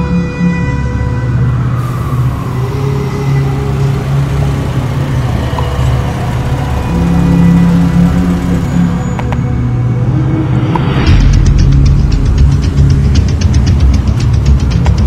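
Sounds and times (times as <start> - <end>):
car engines idling: 1.4 - 10.1, 11.1 - 15.0.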